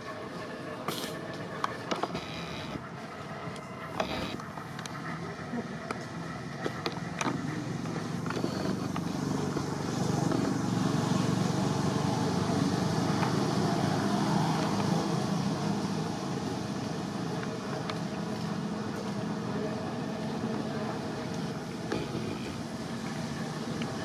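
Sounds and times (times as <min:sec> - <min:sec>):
vehicle engine hum: 0:00.0 - 0:24.0.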